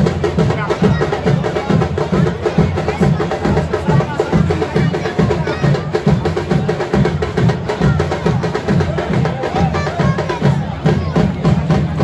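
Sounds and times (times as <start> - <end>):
bass drums pounding: 0.0 - 12.0
samba drum group playing: 0.0 - 12.0.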